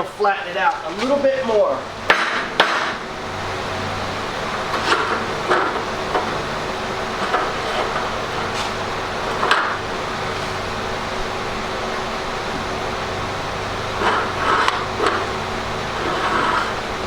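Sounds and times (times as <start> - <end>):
mechanical humming noise: 0.0 - 17.0.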